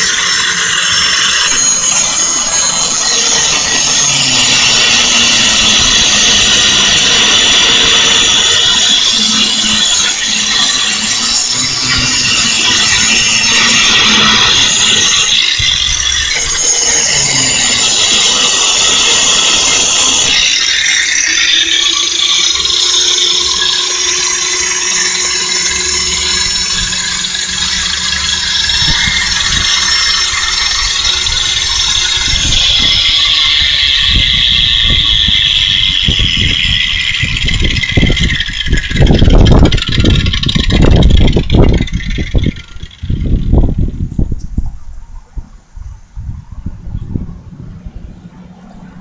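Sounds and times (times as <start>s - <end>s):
angle grinder grinding metal: 0.0s - 44.2s.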